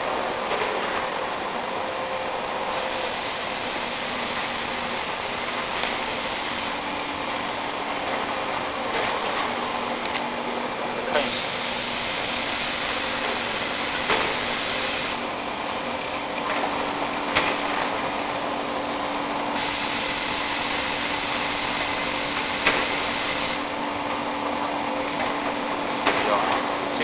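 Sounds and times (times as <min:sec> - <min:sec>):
machine mechanical hum: 0:00.0 - 0:27.0.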